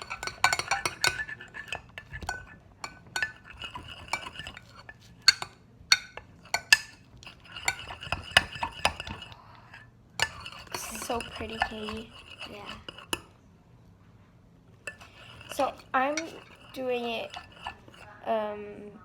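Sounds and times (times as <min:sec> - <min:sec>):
utensils clinking on bowl: 0:00.0 - 0:13.3, 0:14.8 - 0:18.2
utensils stirring slime: 0:00.0 - 0:13.4, 0:14.7 - 0:18.2.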